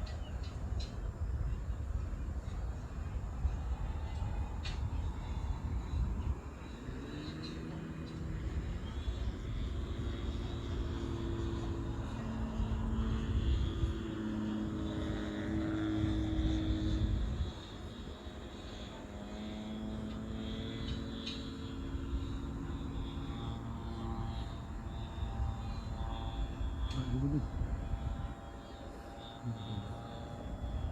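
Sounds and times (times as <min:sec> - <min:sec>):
model airplane propeller drone: 0:00.0 - 0:30.9.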